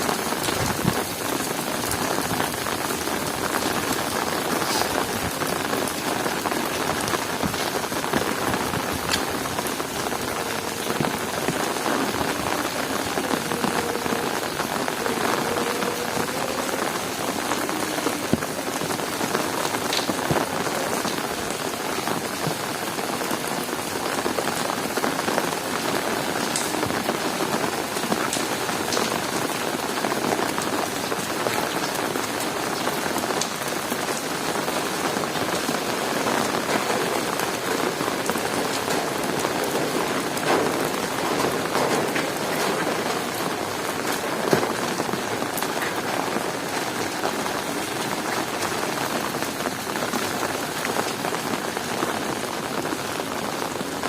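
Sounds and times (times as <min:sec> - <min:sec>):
heavy rain falling: 0:00.0 - 0:54.0
raindrops tapping: 0:00.0 - 0:54.0.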